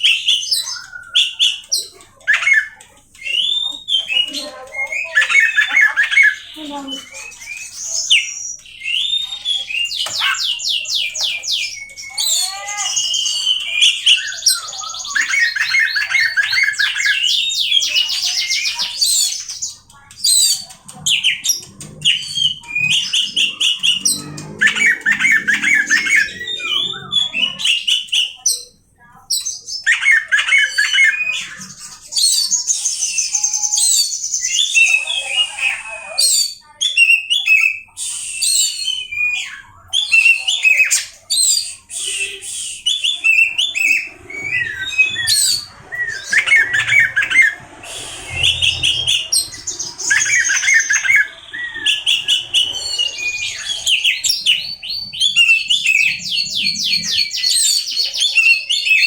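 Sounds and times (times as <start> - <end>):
bird singing trills and whistles: 0.0 - 59.0.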